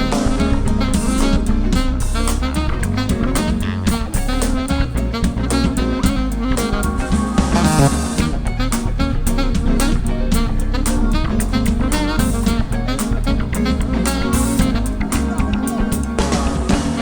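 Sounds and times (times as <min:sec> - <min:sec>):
bass guitar: 0:00.0 - 0:17.0
electric guitar: 0:00.0 - 0:17.0
steady drum beat: 0:00.0 - 0:17.0.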